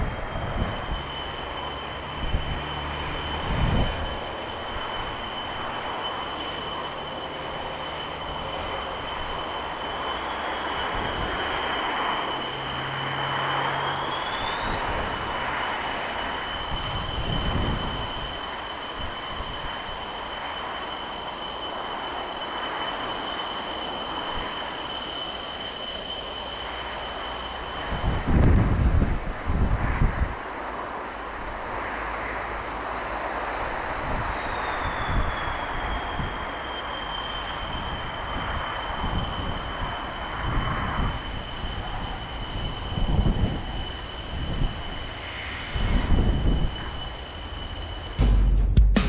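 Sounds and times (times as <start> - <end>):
broad rushing noise: 0.0 - 49.0
jet engine whining: 0.0 - 49.0.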